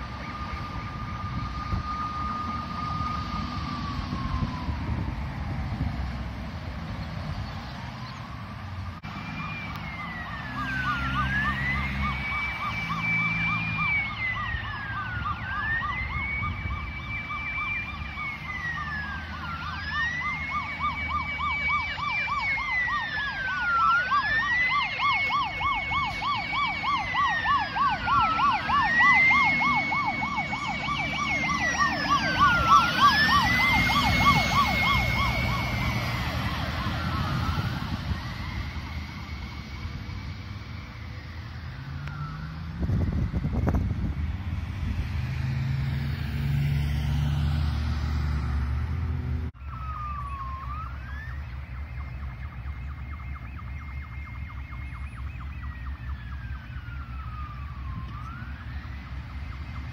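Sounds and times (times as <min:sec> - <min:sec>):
fire truck siren wail: 0:00.0 - 0:59.9
truck engine rumbling: 0:00.0 - 0:59.9
fast warbling siren tone: 0:07.5 - 0:48.9, 0:49.6 - 0:59.9.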